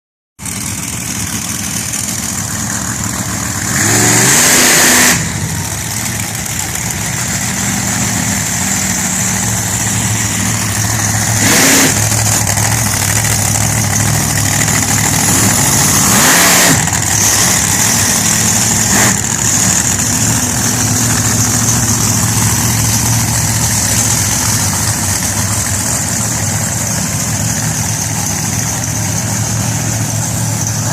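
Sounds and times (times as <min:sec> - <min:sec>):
monster truck engines revving: 0:00.4 - 0:30.9.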